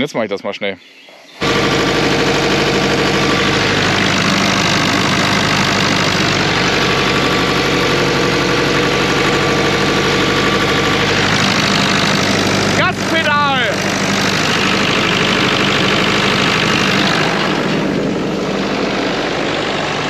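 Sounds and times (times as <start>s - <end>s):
pump engine running: 1.4s - 20.0s.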